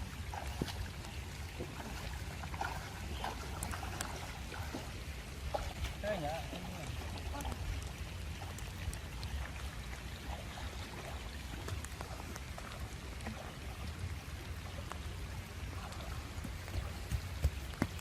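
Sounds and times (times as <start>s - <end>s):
water splashing and dripping: 0.0s - 18.0s.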